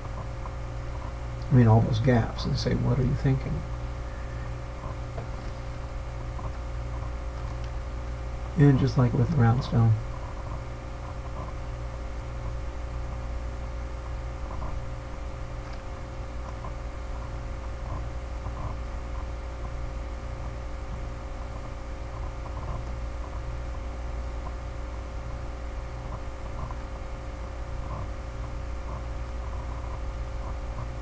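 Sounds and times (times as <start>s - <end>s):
computer hum: 0.0s - 31.0s.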